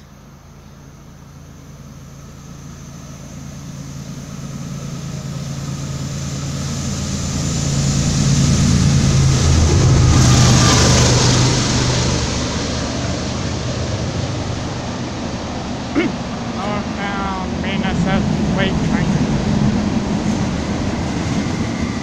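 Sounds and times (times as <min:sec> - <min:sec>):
diesel locomotives passing: 0:00.0 - 0:22.0.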